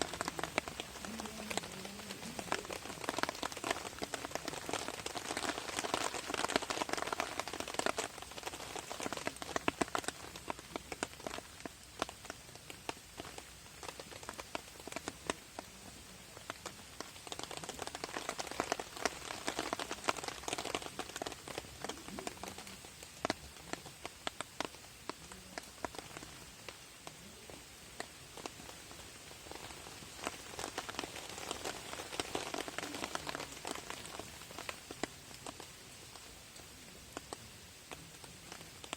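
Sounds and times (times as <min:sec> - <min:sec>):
rain drumming on tarp: 0:00.0 - 0:38.9.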